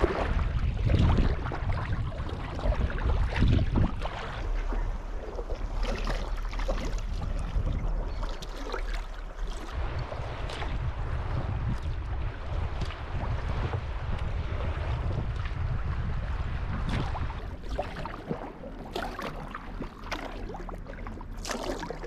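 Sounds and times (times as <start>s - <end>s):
paddle water splashes: 0.0s - 22.0s
wind rumbling on microphone: 0.0s - 22.0s.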